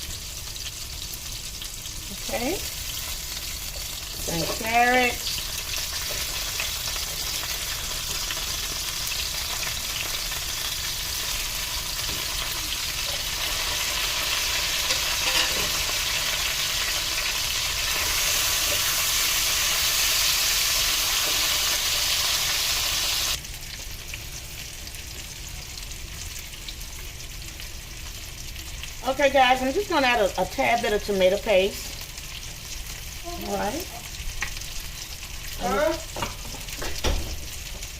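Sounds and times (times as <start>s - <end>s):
food sizzling in a pan: 0.0s - 37.9s.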